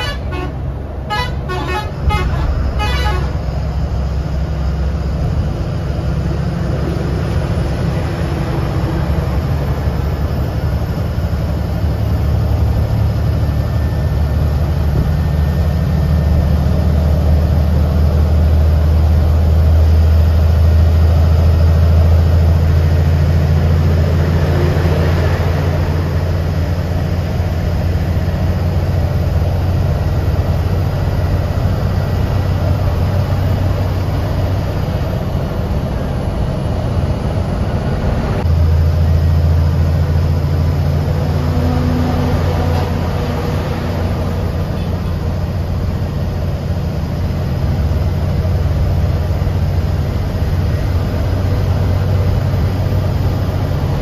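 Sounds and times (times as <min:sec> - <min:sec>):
bus engine droning: 0:00.0 - 0:54.0
road noise: 0:00.0 - 0:54.0.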